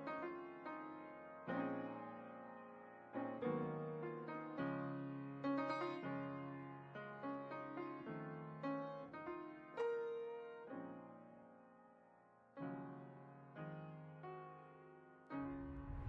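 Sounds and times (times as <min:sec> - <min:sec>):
soft slow piano piece: 0:00.0 - 0:16.0.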